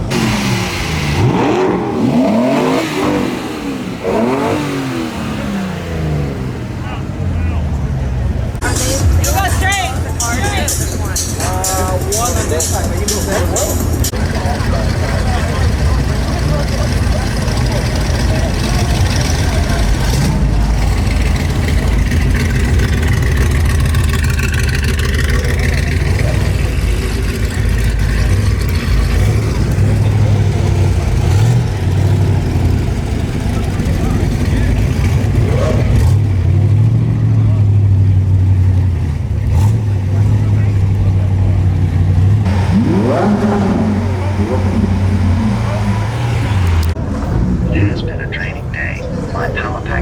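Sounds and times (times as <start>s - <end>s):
sports car engine revving: 0.0s - 50.0s.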